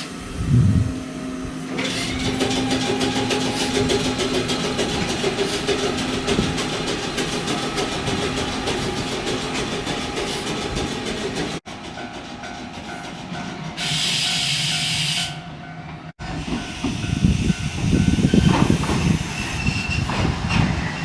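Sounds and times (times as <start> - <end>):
tram running on rails: 0.0 - 21.0.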